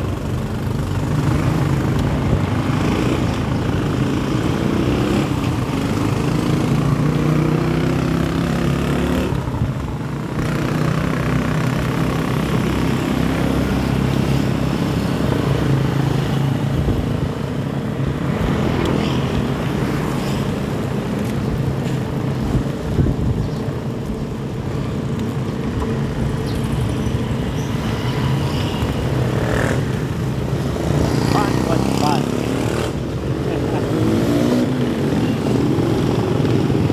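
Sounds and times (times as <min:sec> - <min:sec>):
motorcycle engines on road: 0:00.0 - 0:36.9.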